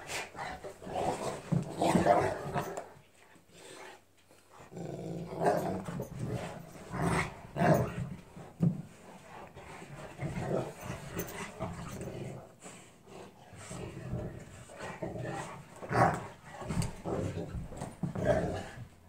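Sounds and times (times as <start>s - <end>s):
dogs growling: 0.0s - 3.0s, 3.6s - 8.5s, 9.3s - 19.0s.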